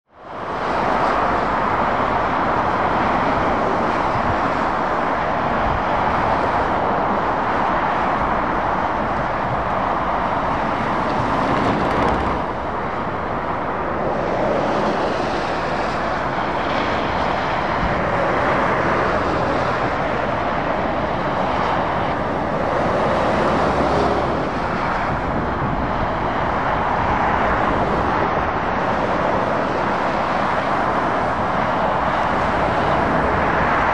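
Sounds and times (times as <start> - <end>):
motorway traffic rushing: 0.1 - 33.9.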